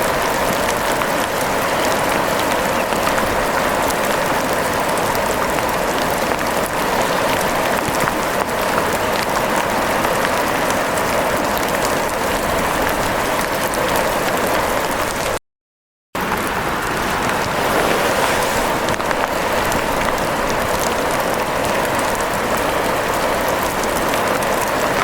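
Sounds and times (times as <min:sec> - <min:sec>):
rain patter: 0:00.0 - 0:15.4, 0:16.2 - 0:25.0.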